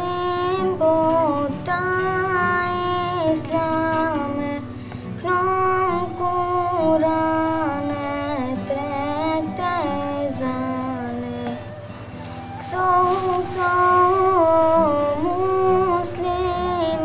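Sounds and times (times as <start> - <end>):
girl singing devotional song: 0.0 - 17.0.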